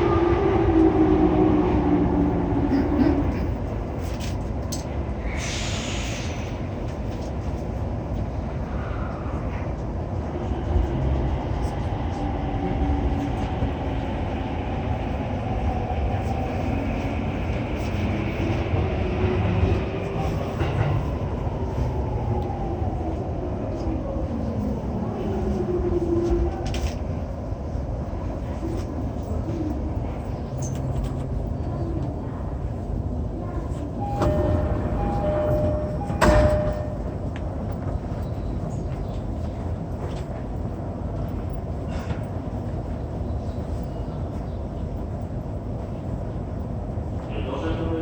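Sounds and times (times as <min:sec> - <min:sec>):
train running: 0:00.0 - 0:48.0.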